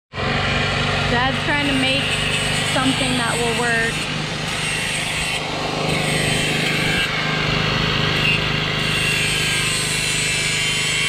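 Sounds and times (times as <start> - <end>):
portable generator running: 0.2 - 11.0.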